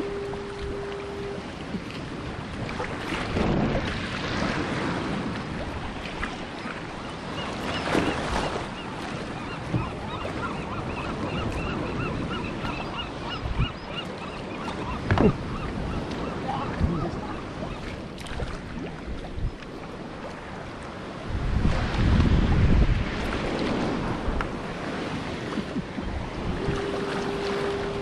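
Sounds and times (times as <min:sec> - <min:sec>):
seabird calling: 0:00.0 - 0:03.0, 0:05.6 - 0:21.2, 0:23.9 - 0:28.0
ocean water splashing around kayak: 0:00.0 - 0:28.0
wind on microphone: 0:00.0 - 0:28.0.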